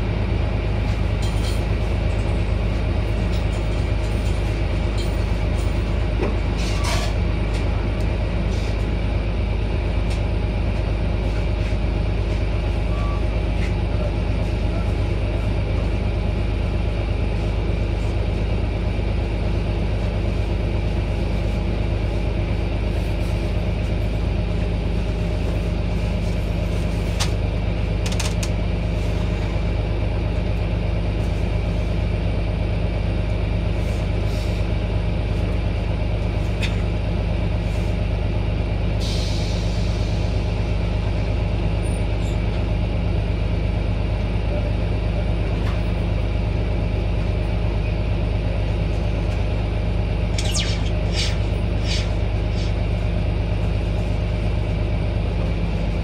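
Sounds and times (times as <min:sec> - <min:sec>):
diesel bus engine idling: 0:00.0 - 0:50.3, 0:51.0 - 0:56.0.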